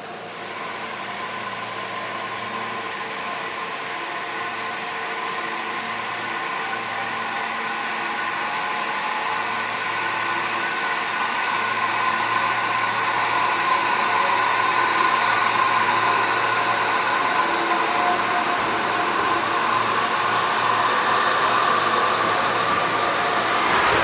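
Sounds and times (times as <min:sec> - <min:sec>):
train engine running hard: 0:00.0 - 0:24.0.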